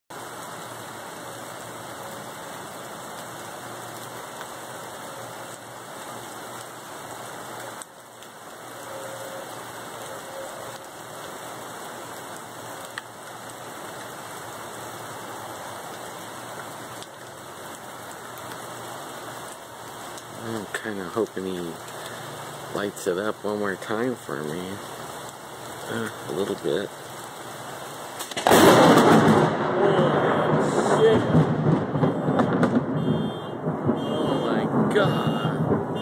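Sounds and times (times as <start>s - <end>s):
rain on wet street: 0.1s - 36.0s.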